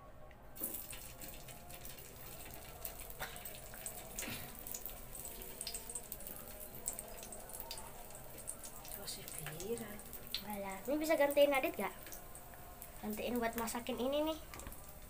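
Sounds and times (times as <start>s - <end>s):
sausage sizzling on grill pan: 0.6s - 15.0s.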